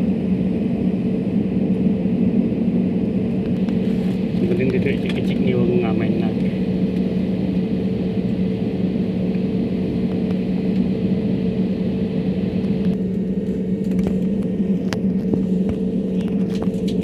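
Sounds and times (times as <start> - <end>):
airliner cabin engine drone: 0.0 - 17.0.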